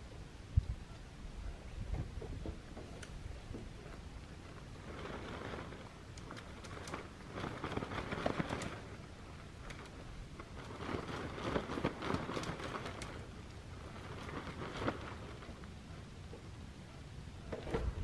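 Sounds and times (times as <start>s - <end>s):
rustling and crinkling: 1.9s - 18.0s.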